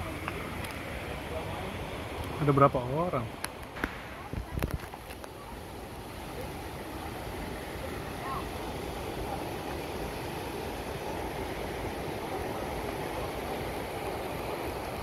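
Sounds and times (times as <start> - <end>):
river rushing over rapids: 0.0 - 15.0.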